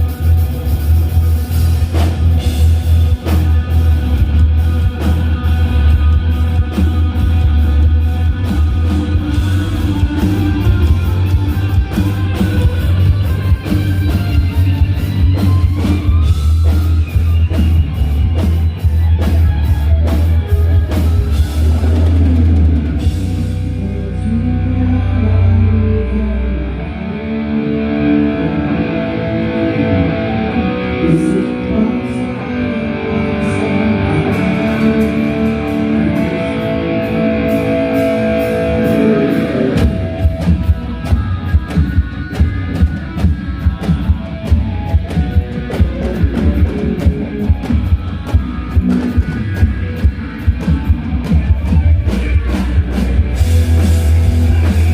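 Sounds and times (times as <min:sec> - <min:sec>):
electric guitar playing: 0:00.0 - 0:54.9
live hard rock band: 0:00.0 - 0:54.9.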